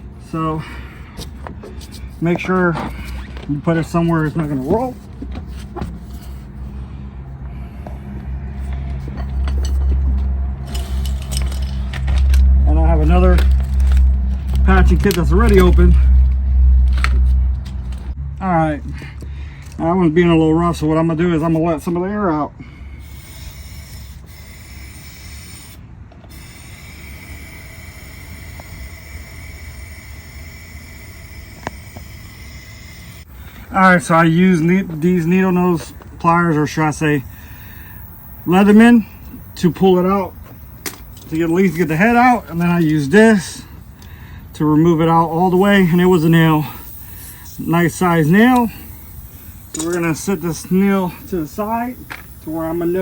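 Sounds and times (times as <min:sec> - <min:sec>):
air hissing out of tire: 0:00.0 - 0:17.4, 0:22.6 - 0:53.0
low steady rumble: 0:00.0 - 0:53.0.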